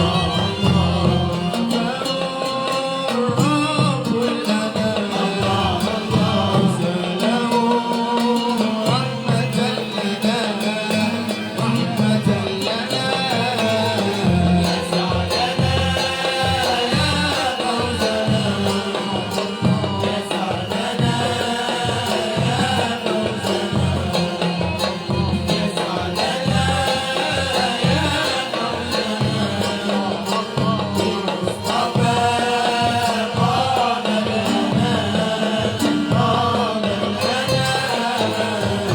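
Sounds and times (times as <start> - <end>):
regular drum beat: 0.0 - 38.9.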